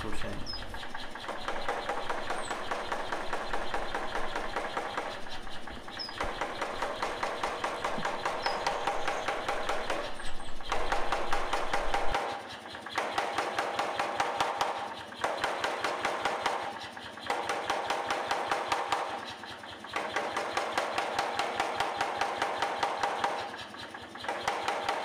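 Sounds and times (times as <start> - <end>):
hammer motor humming: 0.0 - 25.0
power hammer pounding metal: 0.0 - 25.0.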